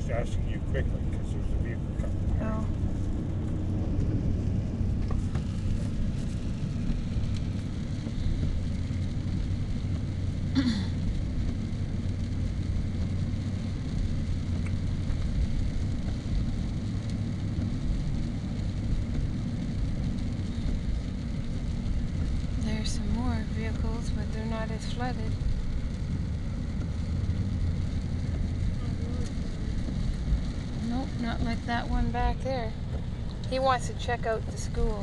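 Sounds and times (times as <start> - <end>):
car engine hum: 0.0 - 35.0
tyre and road rumble: 0.0 - 35.0.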